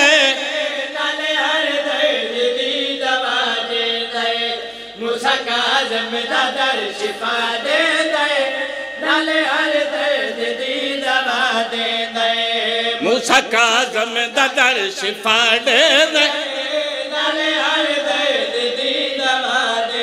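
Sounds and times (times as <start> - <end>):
lead reciter singing melody: 0.0 - 20.0
men chanting devotional song: 0.0 - 20.0.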